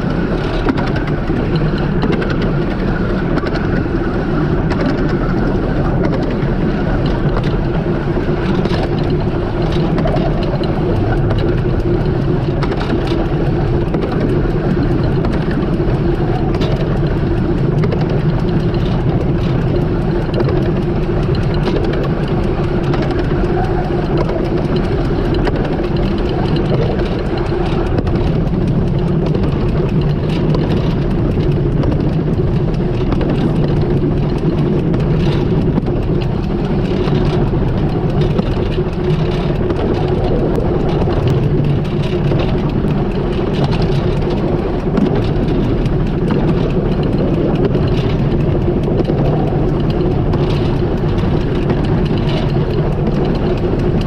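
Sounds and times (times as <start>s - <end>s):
steam locomotive running: 0.0s - 54.0s.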